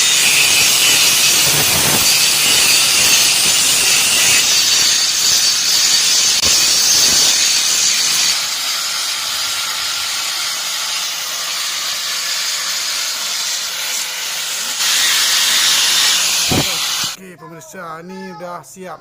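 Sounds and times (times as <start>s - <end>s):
steady hissing: 0.2s - 17.2s.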